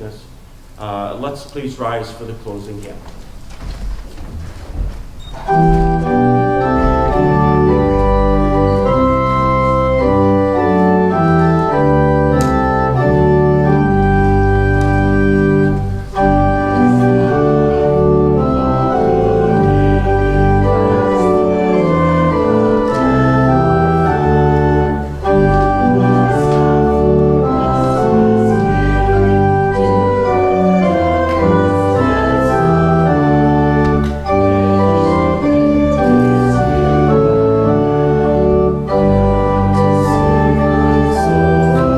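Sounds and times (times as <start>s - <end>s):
church organ playing a hymn: 0.8s - 41.9s.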